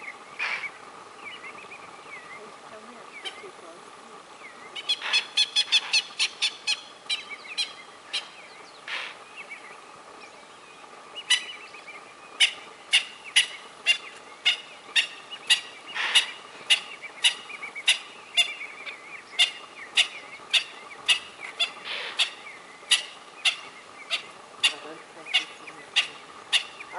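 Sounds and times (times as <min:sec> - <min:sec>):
sharp alarm calls: 0:00.0 - 0:03.6, 0:04.2 - 0:26.9.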